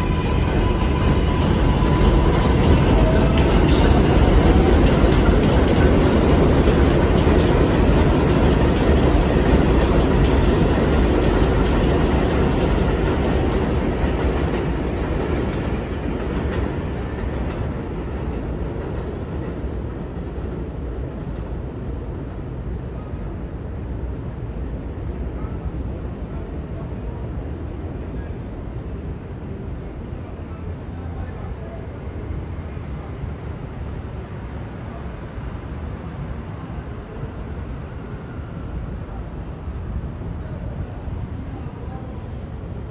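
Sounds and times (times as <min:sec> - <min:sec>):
train rumble and wheel clatter: 0:00.0 - 0:42.9.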